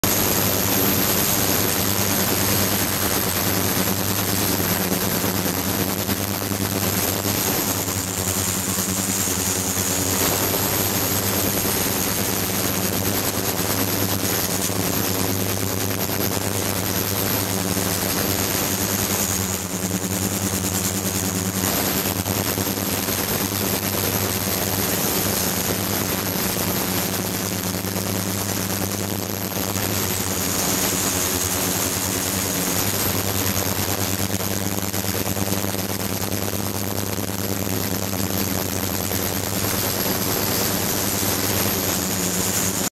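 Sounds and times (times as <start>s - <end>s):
thin high whine: 0.0s - 42.9s
ultrasonic cleaner buzzing hum: 0.0s - 42.9s.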